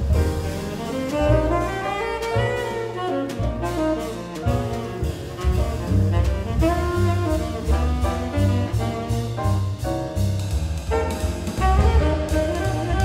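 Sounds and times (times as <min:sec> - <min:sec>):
double bass: 0:00.0 - 0:13.0
drum kit with cymbals: 0:00.0 - 0:13.0
grand piano: 0:00.0 - 0:13.0
saxophone melody: 0:00.4 - 0:09.5, 0:10.9 - 0:13.0.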